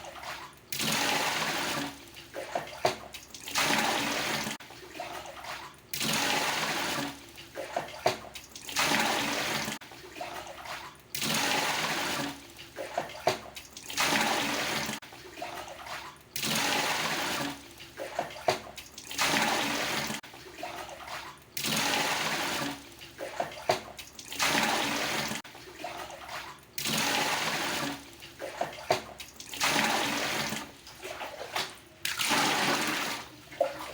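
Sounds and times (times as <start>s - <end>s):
dipper knocking and sloshing: 0.0s - 33.9s
water poured and splashing: 0.0s - 33.9s.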